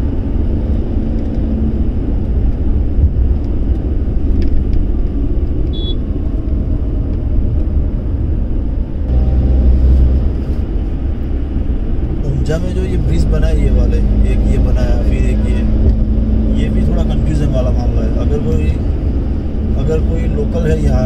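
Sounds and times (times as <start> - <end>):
car cabin road noise: 0.0 - 21.0.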